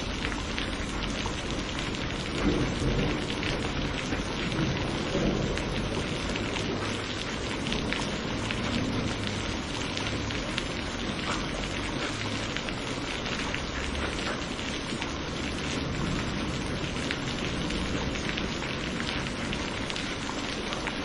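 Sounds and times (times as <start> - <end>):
raindrops ticking on a surface: 0.0 - 21.0
steady rain: 0.0 - 21.0.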